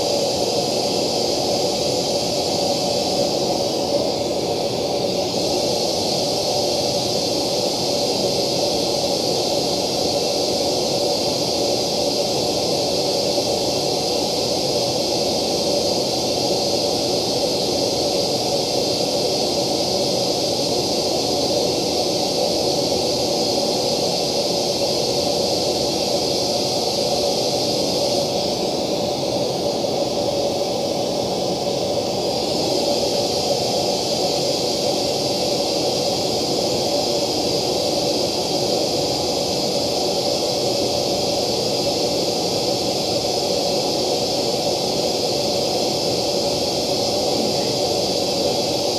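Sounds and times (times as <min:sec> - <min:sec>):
hiss-like test noise through tweeter: 0:00.0 - 0:48.9.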